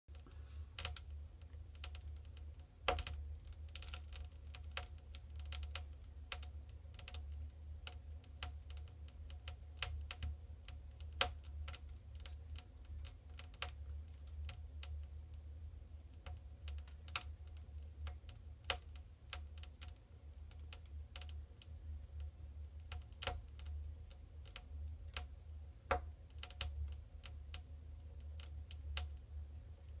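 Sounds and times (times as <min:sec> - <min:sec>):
log fire crackling and popping: 0:00.1 - 0:30.0.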